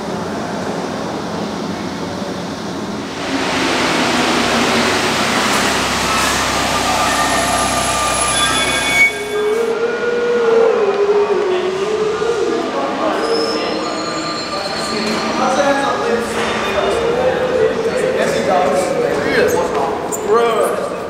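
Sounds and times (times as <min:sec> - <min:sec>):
metro train running: 0:00.0 - 0:21.0.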